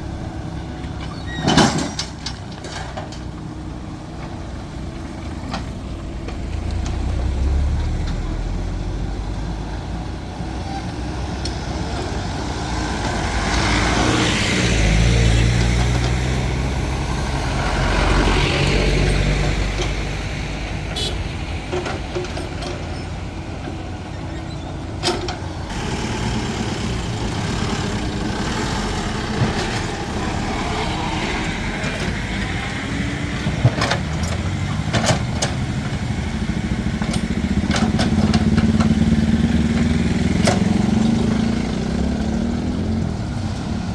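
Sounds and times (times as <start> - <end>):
vehicles passing: 0.0 - 43.9
diesel engine revving: 3.7 - 43.9.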